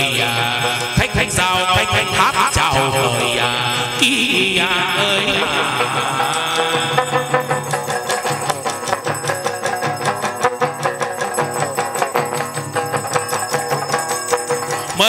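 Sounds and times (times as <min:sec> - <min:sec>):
small cymbal ringing: 0:02.1 - 0:15.0.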